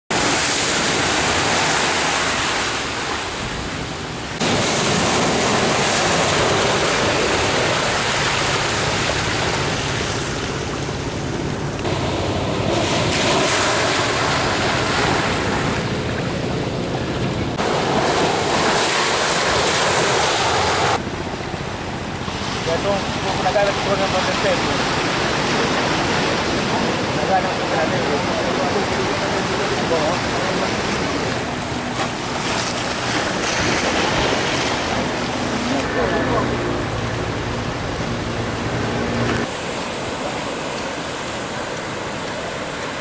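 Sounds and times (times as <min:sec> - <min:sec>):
waves crashing against seawall: 0:00.1 - 0:21.0, 0:22.2 - 0:43.0.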